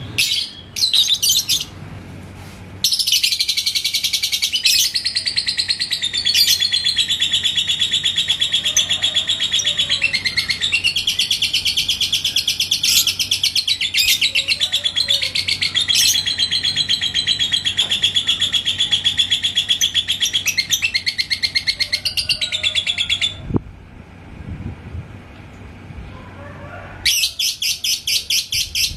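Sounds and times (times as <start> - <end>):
lovebird rapid chattering song: 0.1 - 1.7, 2.9 - 23.3, 27.1 - 28.9.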